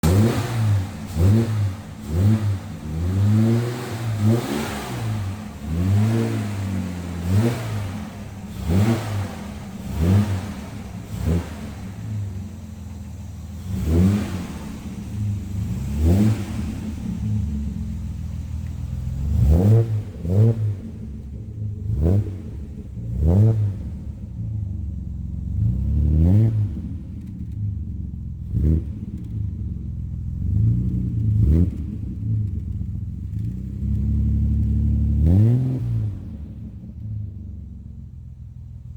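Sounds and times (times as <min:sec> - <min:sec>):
car engine revving in blips: 0:00.0 - 0:38.9.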